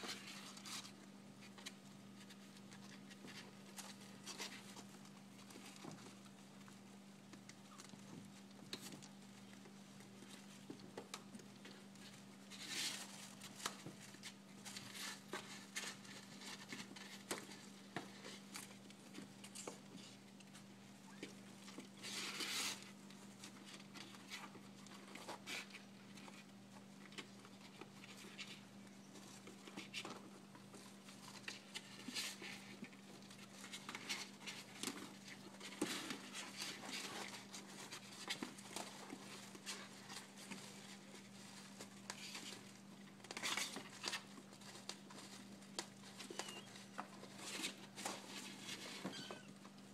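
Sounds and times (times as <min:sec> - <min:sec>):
kittens scratching in cardboard box: 0:00.0 - 0:49.9.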